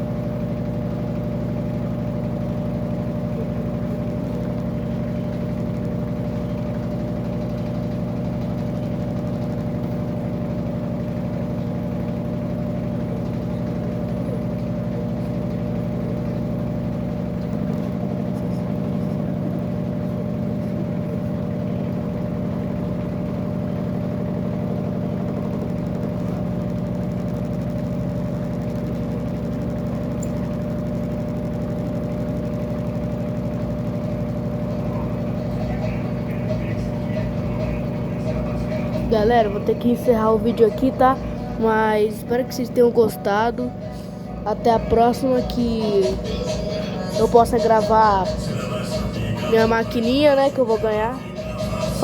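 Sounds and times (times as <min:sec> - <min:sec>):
washing machine motor hum: 0:00.0 - 0:52.0.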